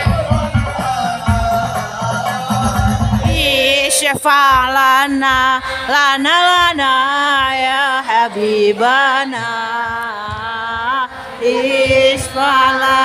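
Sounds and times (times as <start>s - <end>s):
solo voice singing amplified: 0.0s - 13.0s.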